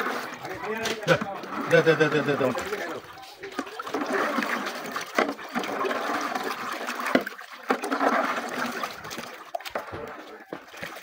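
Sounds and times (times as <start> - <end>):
hands sloshing thick liquid in pot: 0.0 - 11.0.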